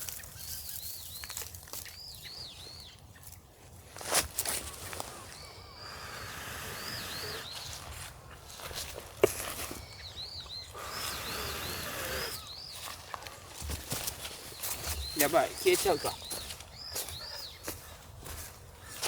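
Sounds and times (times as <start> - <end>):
small bird chirping: 0.0 - 3.4, 4.7 - 8.8, 9.5 - 13.6, 14.4 - 19.0.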